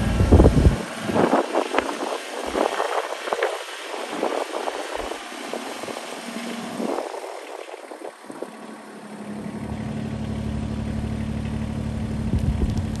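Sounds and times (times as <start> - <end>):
backhoe loader engine running: 0.0 - 13.0.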